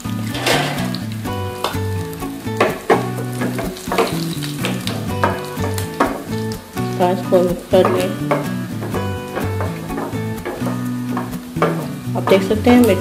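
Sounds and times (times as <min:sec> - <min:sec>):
background music: 0:00.0 - 0:13.0
seeds sizzling in hot oil: 0:00.0 - 0:13.0.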